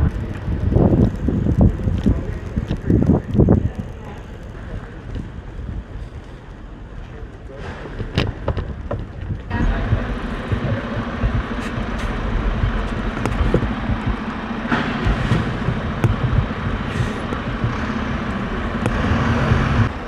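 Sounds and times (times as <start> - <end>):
road and traffic noise: 0.0 - 20.0
wind rumble on microphone: 0.0 - 20.0.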